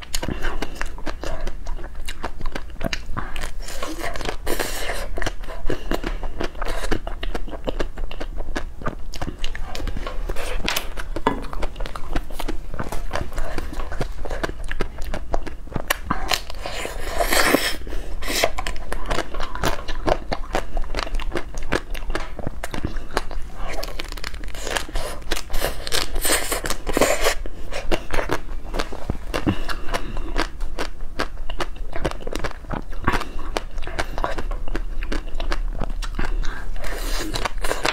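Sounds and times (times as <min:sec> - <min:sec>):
ice cream bar crunching: 0:00.0 - 0:37.9.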